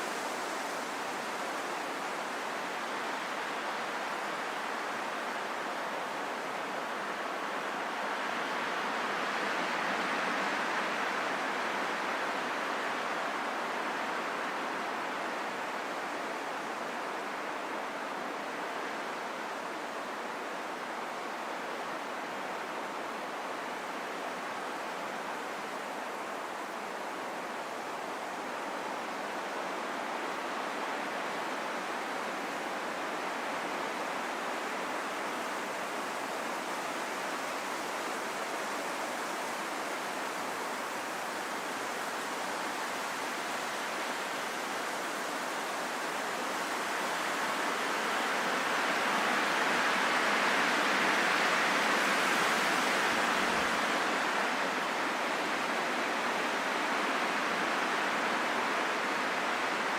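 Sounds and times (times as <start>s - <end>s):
rushing wind: 0.0s - 59.9s.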